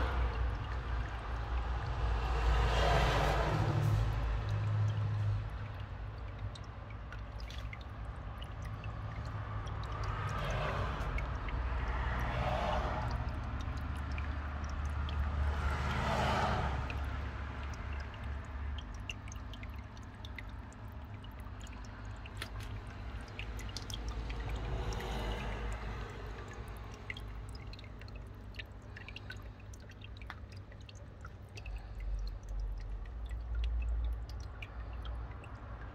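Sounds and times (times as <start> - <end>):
small stream trickling: 0.0 - 35.9
water dripping: 0.0 - 35.9.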